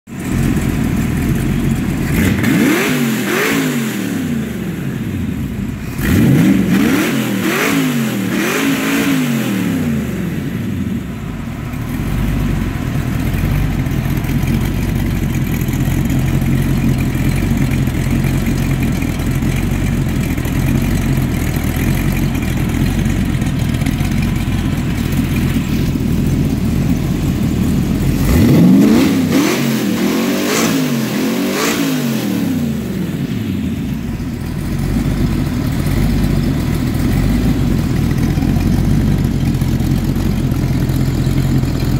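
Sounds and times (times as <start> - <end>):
engine revving and idling: 0.1 - 41.9.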